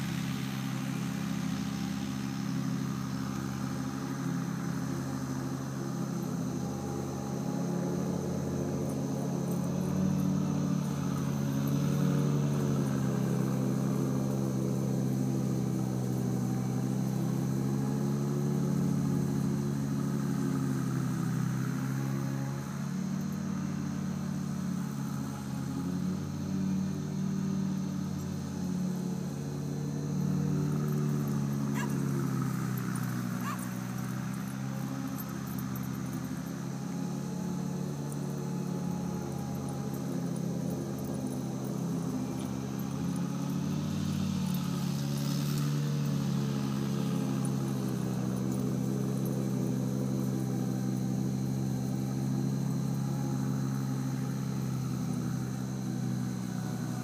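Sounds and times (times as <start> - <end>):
motor droning: 0.0 - 57.0.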